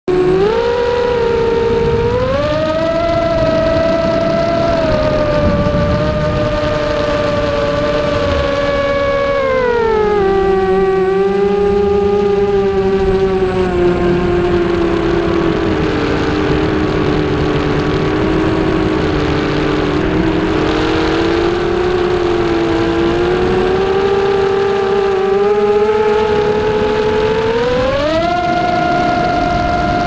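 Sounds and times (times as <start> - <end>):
quadcopter motors whining: 0.1 - 30.0.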